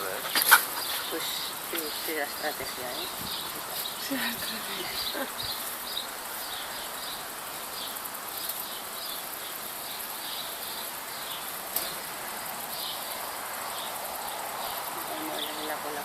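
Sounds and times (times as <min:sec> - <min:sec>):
high insect buzz: 0:00.0 - 0:16.0.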